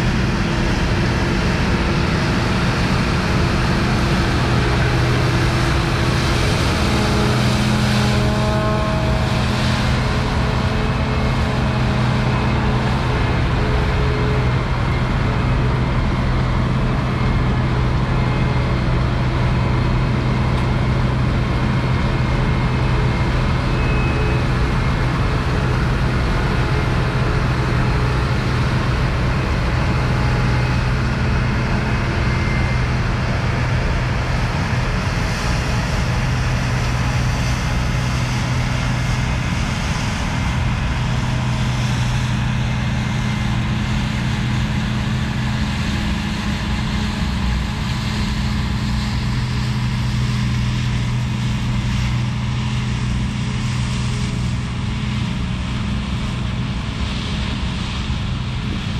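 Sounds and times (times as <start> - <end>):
combine harvester engine drone: 0.0 - 58.9.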